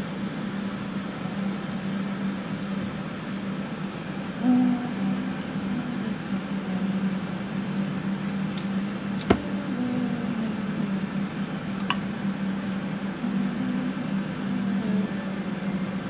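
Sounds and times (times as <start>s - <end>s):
electric fans humming: 0.0s - 16.0s.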